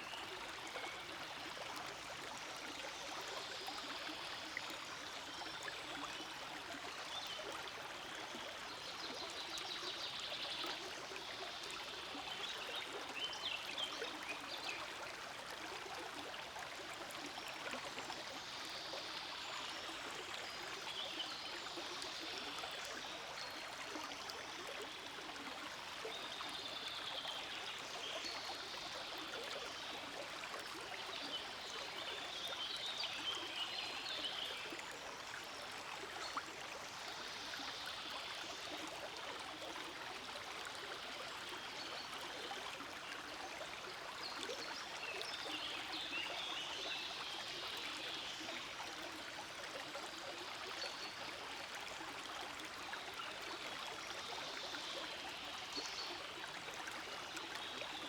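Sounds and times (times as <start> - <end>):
forest stream flowing: 0.0 - 58.0.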